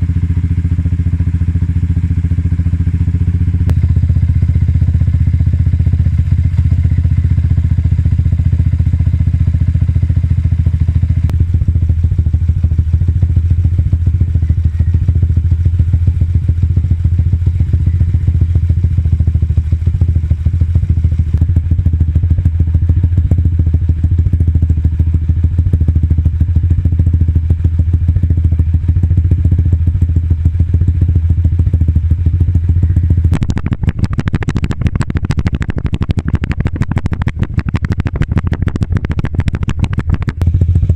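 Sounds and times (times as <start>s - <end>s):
motorcycle engine running loud: 0.0s - 40.9s.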